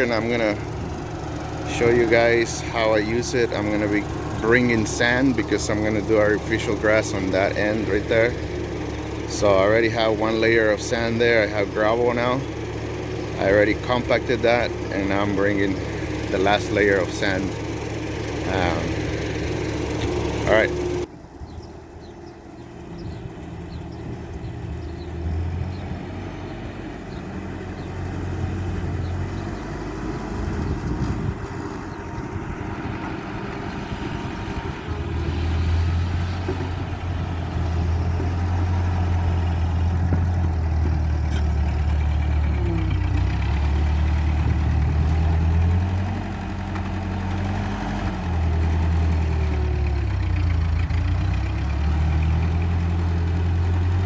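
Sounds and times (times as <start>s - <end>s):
tractor engine droning: 0.0s - 54.0s.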